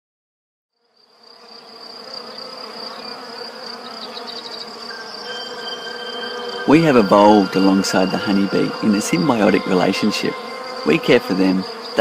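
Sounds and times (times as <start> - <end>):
honeybees buzzing: 0.8 - 12.0.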